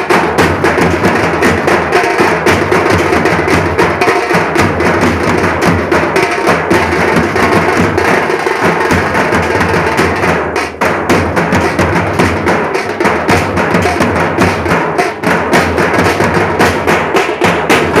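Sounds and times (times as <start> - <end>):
fast loud drumming: 0.0 - 18.0.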